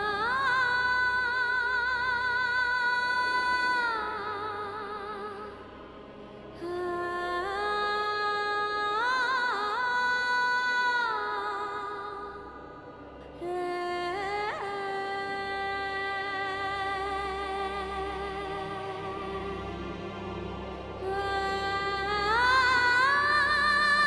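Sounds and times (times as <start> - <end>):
wordless vocal music: 0.0 - 24.0.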